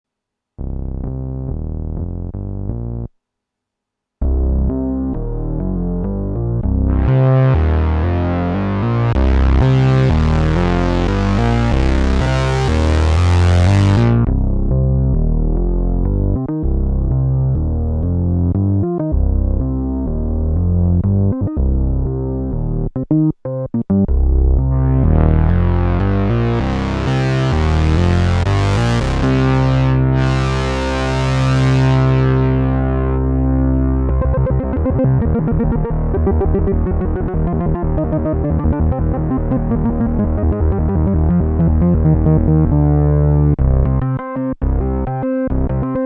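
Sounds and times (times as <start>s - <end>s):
synthesizer bass notes: 0.6s - 3.1s, 4.2s - 46.0s.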